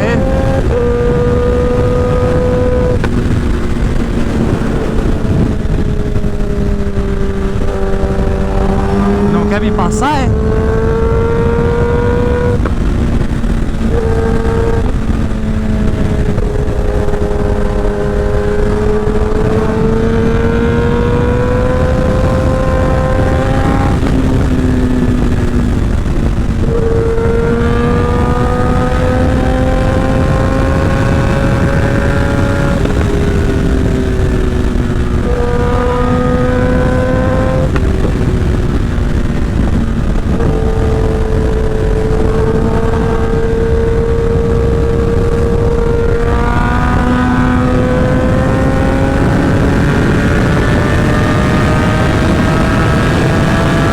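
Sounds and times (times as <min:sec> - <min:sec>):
motorcycle engine revving: 0:00.0 - 0:53.9
wind rush on microphone: 0:00.0 - 0:53.9.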